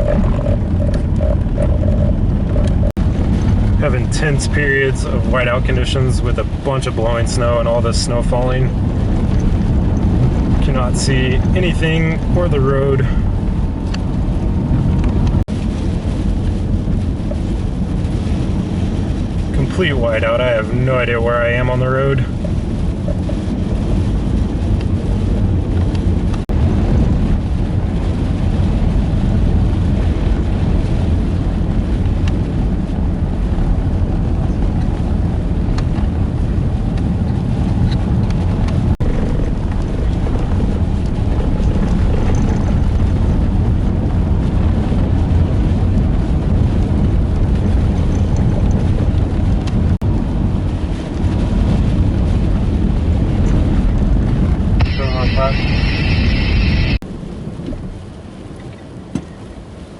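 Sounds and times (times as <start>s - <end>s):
strong wind: 0.0s - 59.9s
vehicle driving low rumble: 0.0s - 59.9s.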